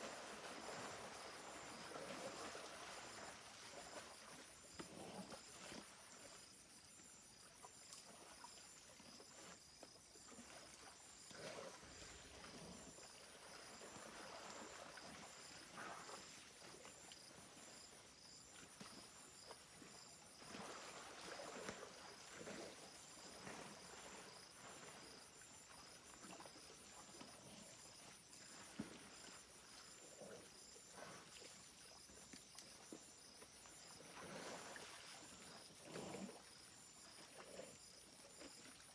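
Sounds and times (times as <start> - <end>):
insects chirping: 0.1 - 38.9.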